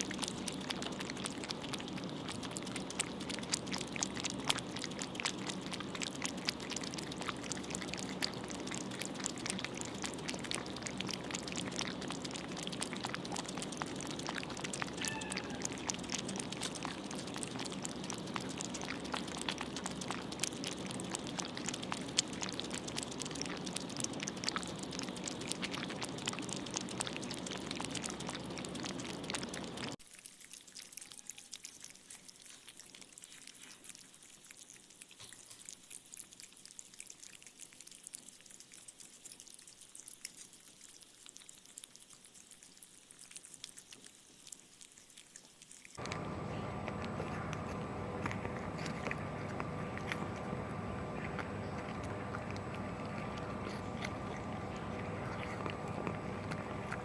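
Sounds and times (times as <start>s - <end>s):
cats crunching treats: 0.0s - 57.0s.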